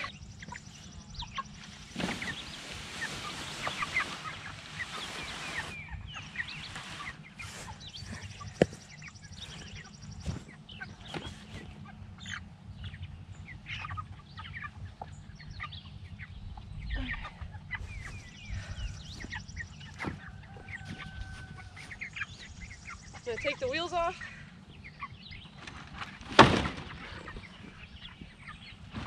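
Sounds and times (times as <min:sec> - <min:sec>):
chicks peeping and clucking: 0:00.0 - 0:29.0.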